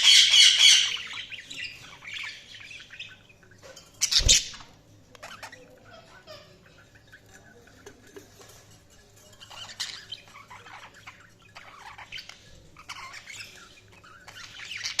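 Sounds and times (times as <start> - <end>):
budgerigars chirping: 0.0 - 8.7, 9.3 - 15.0.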